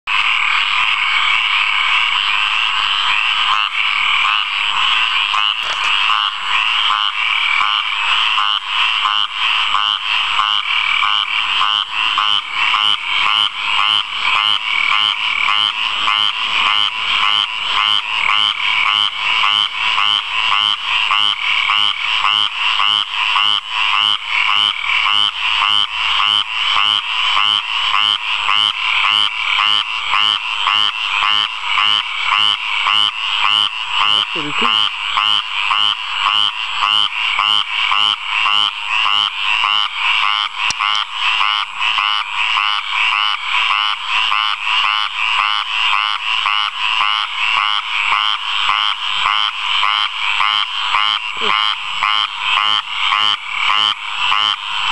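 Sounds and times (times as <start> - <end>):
frog calling: 0.1 - 54.9.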